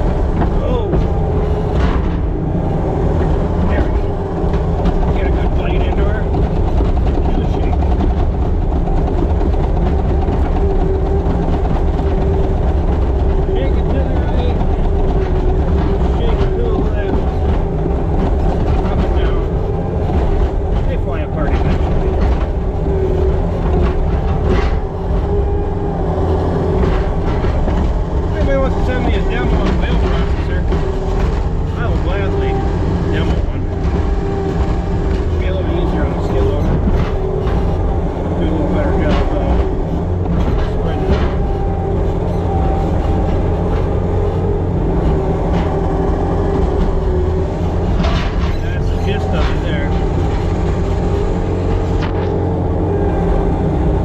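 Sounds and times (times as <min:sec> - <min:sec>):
farm machine engine from cab: 0:00.0 - 0:54.0.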